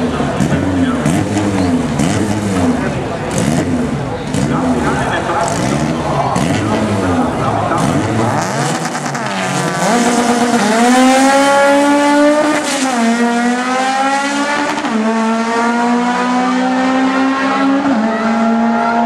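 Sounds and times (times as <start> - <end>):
drag racing cars accelerating: 0.0 - 19.0.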